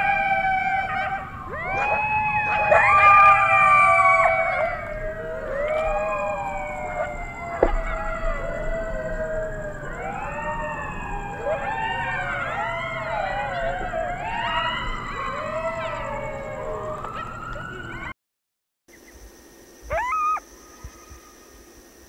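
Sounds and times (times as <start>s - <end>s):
coyotes howling and yipping: 0.0s - 18.2s, 19.8s - 21.8s.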